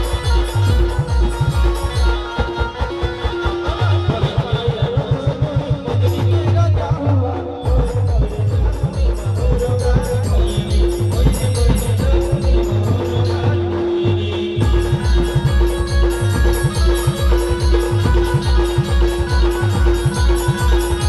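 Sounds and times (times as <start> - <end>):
heavy drum beats: 0.0 - 21.0.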